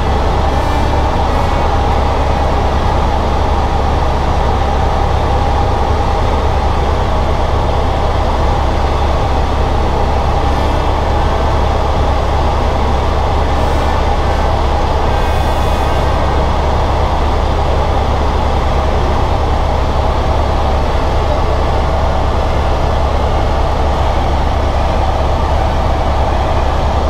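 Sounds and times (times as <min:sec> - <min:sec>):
helicopter cabin drone: 0:00.0 - 0:27.0
steady higher tone: 0:00.0 - 0:27.0.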